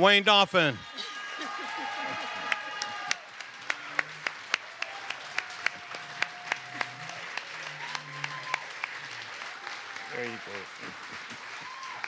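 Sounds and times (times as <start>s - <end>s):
audience applauding: 0.8s - 12.0s
close handclaps: 1.6s - 12.0s.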